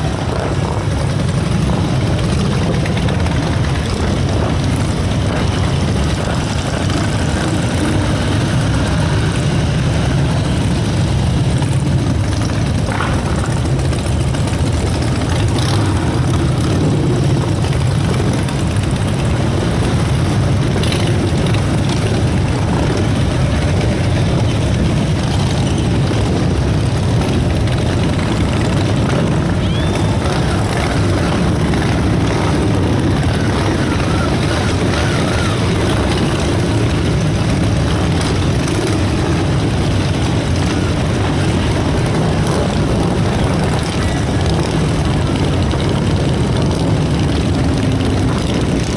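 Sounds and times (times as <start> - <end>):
many vehicle engines droning: 0.0 - 48.9.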